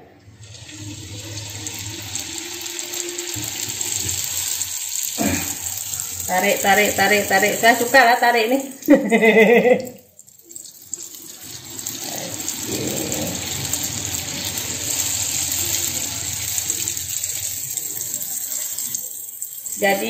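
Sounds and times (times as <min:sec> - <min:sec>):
dough deep-frying in hot oil: 0:00.0 - 0:20.0.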